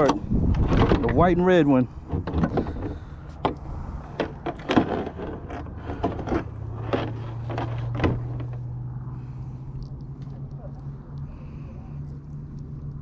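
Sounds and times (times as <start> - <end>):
steady low hum: 1.7 - 13.0.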